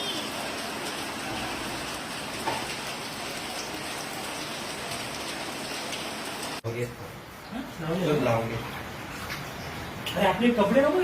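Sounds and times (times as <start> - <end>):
heavy rain splashing: 0.0 - 11.0.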